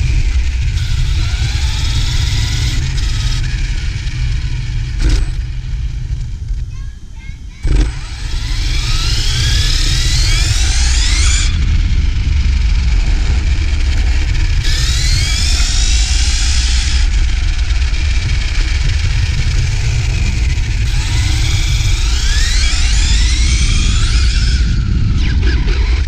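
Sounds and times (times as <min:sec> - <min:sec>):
electric motor whine: 0:00.0 - 0:06.7, 0:07.5 - 0:26.0
wind on microphone: 0:00.0 - 0:26.0.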